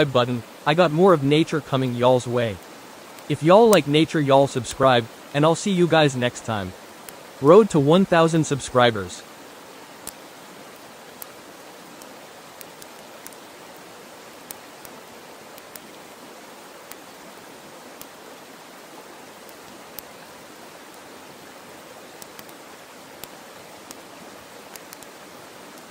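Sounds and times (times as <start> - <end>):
campfire crackling: 0.0 - 25.9
creek water running: 0.0 - 25.9.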